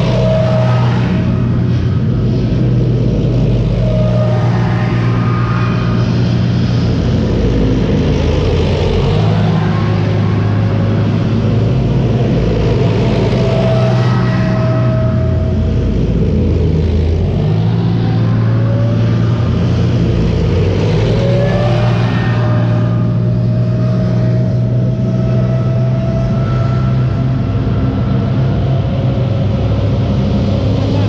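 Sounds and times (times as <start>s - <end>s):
tank engine drone: 0.0s - 31.0s
track noise: 0.0s - 31.0s
whining tones gliding in pitch: 0.0s - 31.0s.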